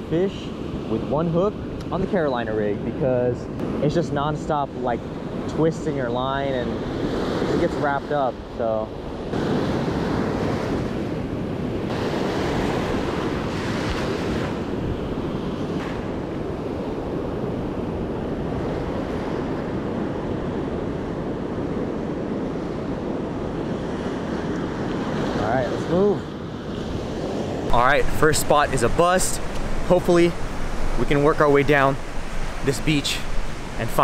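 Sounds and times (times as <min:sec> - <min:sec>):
ocean surf breaking: 0:00.0 - 0:34.0
wind buffeting microphone: 0:00.6 - 0:34.0.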